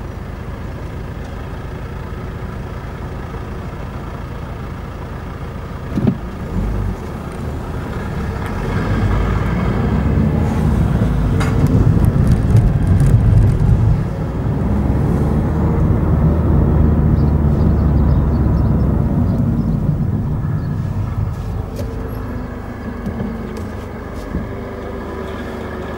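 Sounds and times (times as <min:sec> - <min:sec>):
road noise: 0:00.0 - 0:25.9
car engine accelerating: 0:00.8 - 0:25.9.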